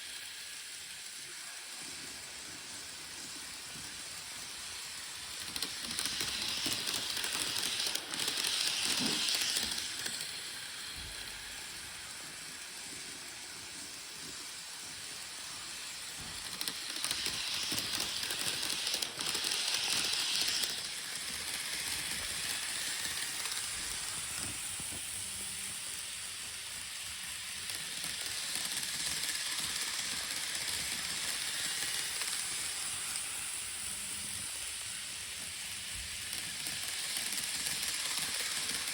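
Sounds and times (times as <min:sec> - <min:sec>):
model trains rolling on track: 0:00.0 - 0:38.9.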